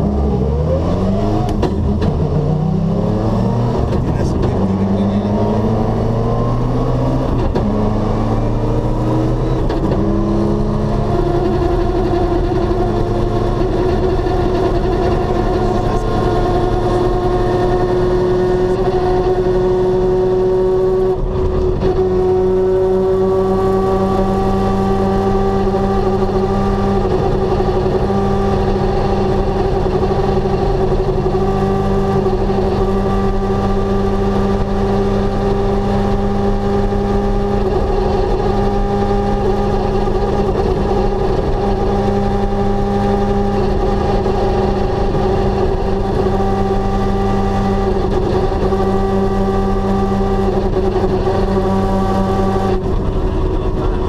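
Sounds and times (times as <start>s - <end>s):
rally car engine from inside cabin: 0.0s - 54.0s.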